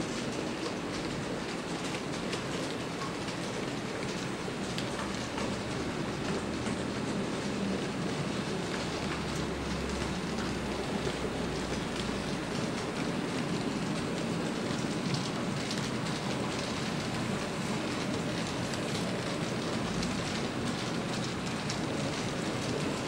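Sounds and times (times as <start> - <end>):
model trains whirring on track: 0.0 - 23.0.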